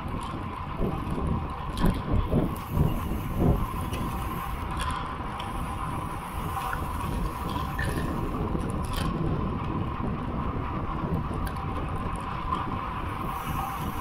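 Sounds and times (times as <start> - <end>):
tyres humming on asphalt: 0.0 - 14.0
wind rushing over microphone: 0.0 - 14.0.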